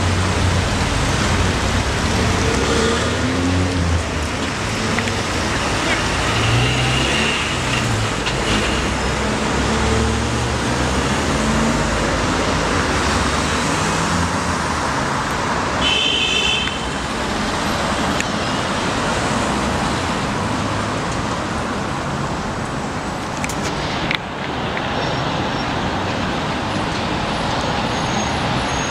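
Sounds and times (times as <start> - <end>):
street traffic: 0.0 - 28.9.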